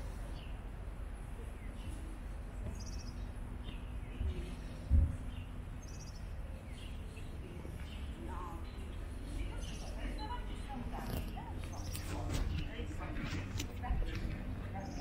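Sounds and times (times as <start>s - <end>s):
small birds chirping: 0.0s - 15.0s
street ambience rumble: 0.0s - 15.0s.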